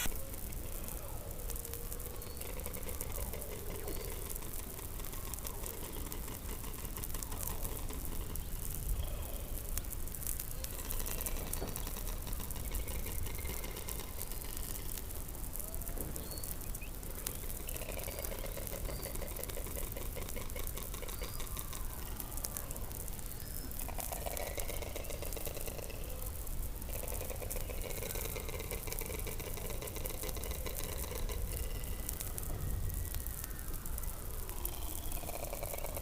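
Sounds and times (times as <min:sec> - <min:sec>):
pulsed buzzing calls: 0:00.0 - 0:00.7, 0:01.6 - 0:09.6, 0:10.6 - 0:36.0.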